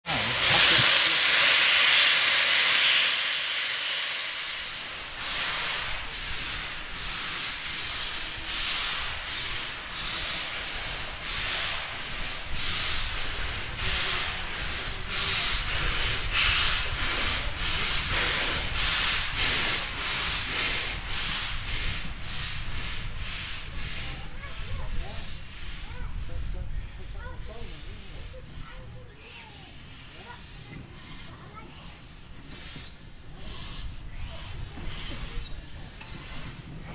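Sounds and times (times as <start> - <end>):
loud steam hiss: 0.0 - 26.2, 26.8 - 36.9
steam locomotive exhaust chuffing: 0.0 - 36.9.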